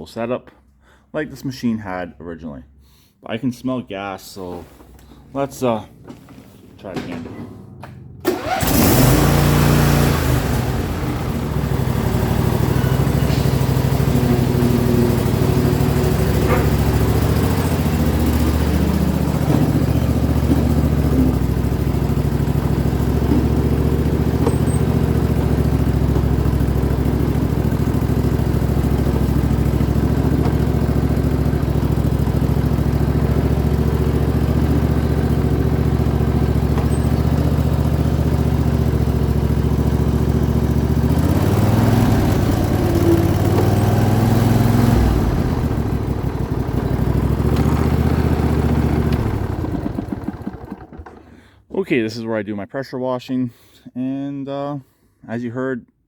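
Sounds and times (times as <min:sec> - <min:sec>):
garden tractor engine running: 0:05.6 - 0:51.6.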